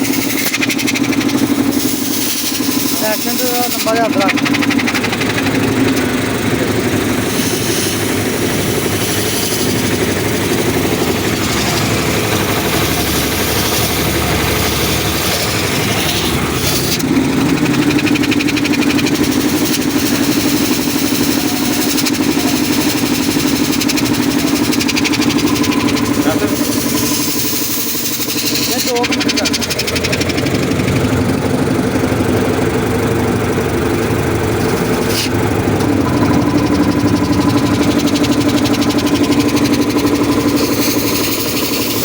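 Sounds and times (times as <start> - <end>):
air compressor running: 0.0 - 42.0.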